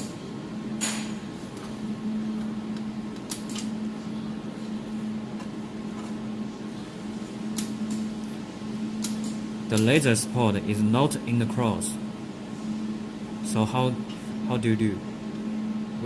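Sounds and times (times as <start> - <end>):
cooling system humming: 0.0 - 16.0.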